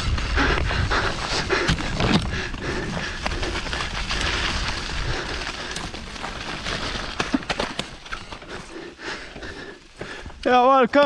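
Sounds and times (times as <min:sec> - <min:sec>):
bike clicks and rattles: 0:00.0 - 0:11.0
wind and tyres rushing on dirt: 0:00.0 - 0:11.0.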